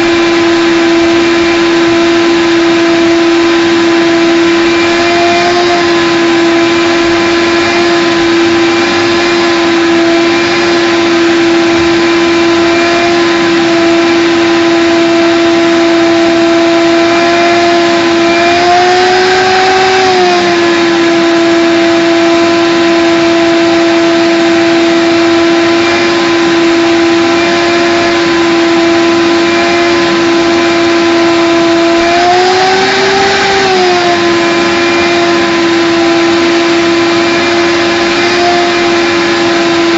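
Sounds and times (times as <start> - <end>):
shop vac whining: 0.0 - 39.9.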